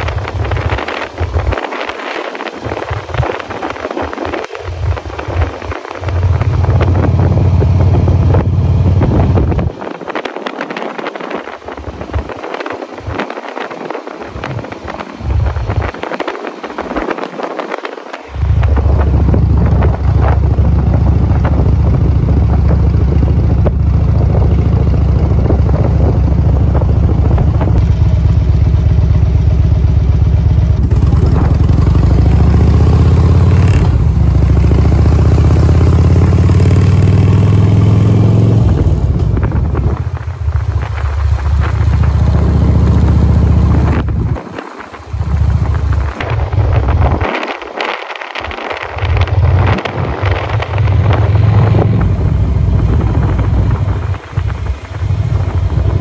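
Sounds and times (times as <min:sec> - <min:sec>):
motorcycle engine accelerating: 0:00.0 - 0:13.6, 0:18.3 - 0:56.0.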